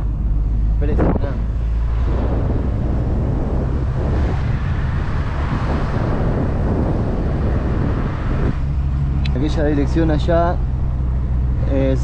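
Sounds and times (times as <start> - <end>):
vehicle road noise: 0.0 - 12.0
wind buffeting microphone: 0.0 - 12.0.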